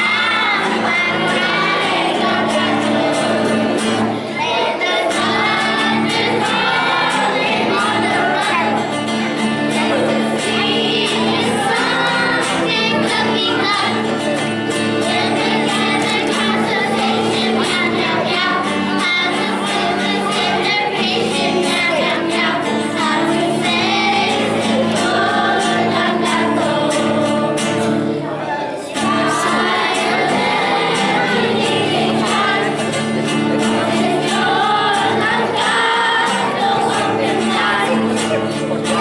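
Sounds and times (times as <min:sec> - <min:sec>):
children's choir singing: 0:00.0 - 0:39.0
strummed acoustic guitar: 0:00.0 - 0:39.0.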